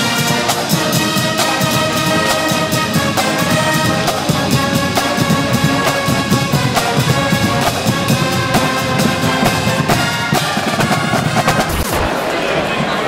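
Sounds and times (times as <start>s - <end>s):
brass band horns: 0.0s - 13.0s
busy drum beat: 0.0s - 13.0s.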